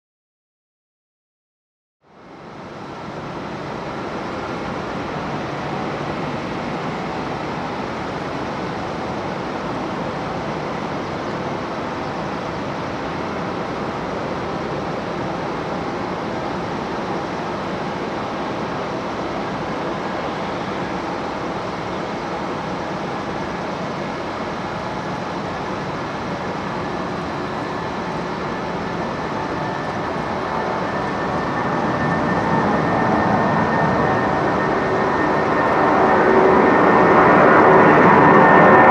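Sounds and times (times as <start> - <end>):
jet engines roaring: 2.2 - 38.9.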